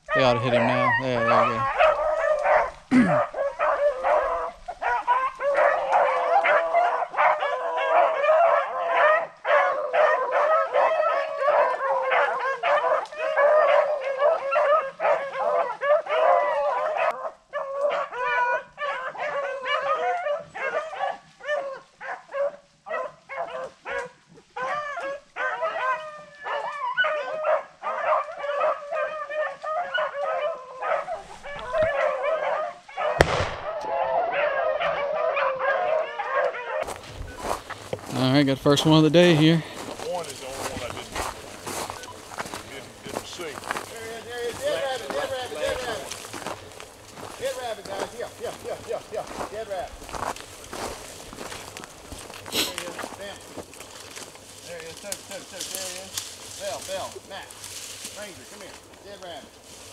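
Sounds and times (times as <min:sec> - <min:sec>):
hounds baying and yelping: 0:00.0 - 0:59.9.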